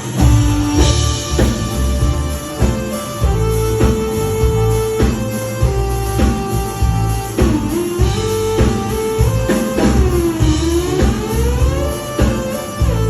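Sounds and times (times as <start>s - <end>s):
band playing live: 0.0s - 13.0s
bass: 0.0s - 13.0s
drum kit beat: 0.0s - 13.0s.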